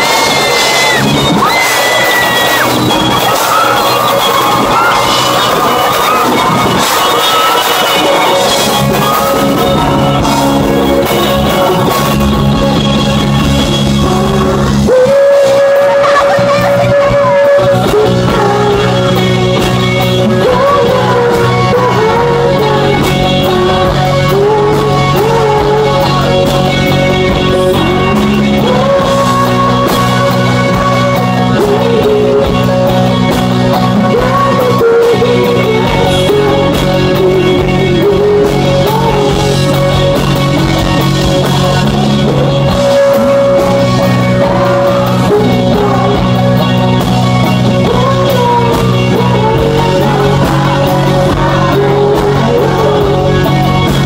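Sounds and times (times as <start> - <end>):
bass guitar: 0.0 - 54.0
electric guitar chords: 0.0 - 54.0
man singing: 0.0 - 54.0.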